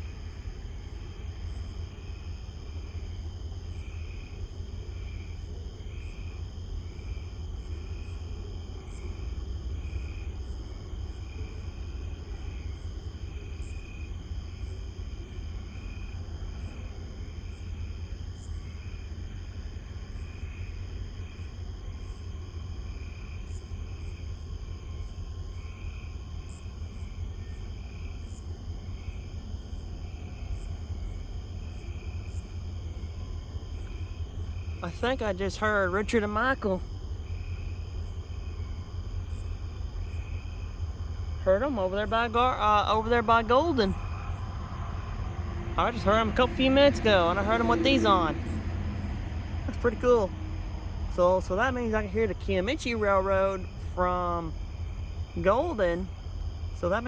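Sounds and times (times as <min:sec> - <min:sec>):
insects chirping: 0:00.0 - 0:57.0
steady low rumble: 0:00.0 - 0:57.0.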